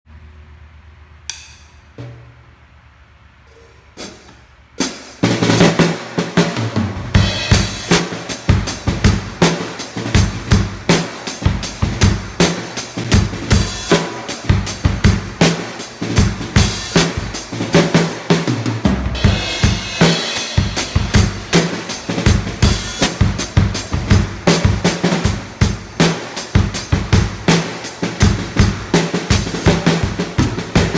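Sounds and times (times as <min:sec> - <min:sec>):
drum kit beat: 0:04.0 - 0:30.9.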